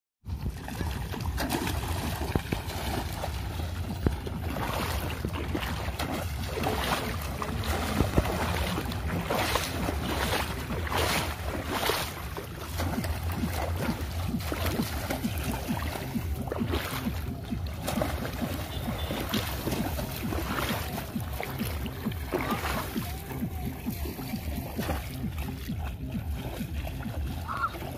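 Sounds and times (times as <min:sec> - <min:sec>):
water splashing from wading: 0:00.3 - 0:27.9.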